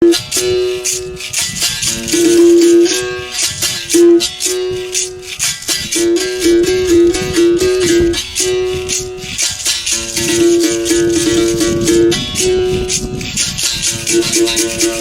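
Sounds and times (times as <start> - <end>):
berimbau string struck: 0.0 - 15.0
shaker rattling: 0.0 - 15.0.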